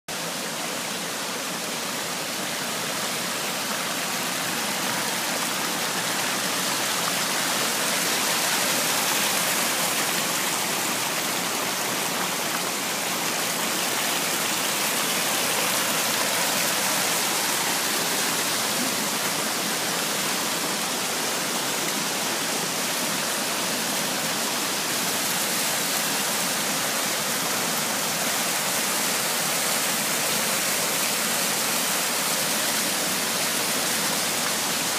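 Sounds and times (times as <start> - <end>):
creek water rushing over rocks: 0.1 - 34.9.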